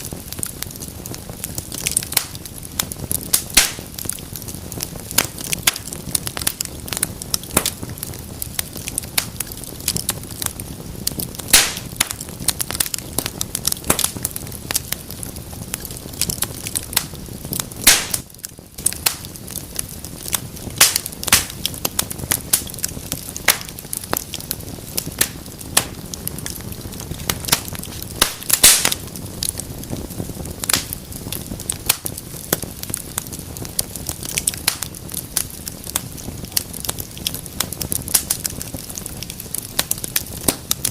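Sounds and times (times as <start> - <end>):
fire crackling with pops: 0.0 - 40.9.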